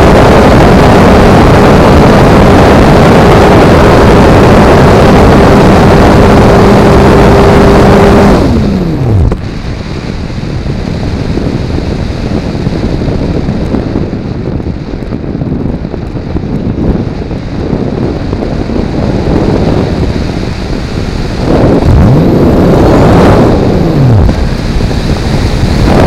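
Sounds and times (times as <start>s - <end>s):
electric motor and propeller: 0.0s - 26.0s
wind rushing past: 0.0s - 26.0s.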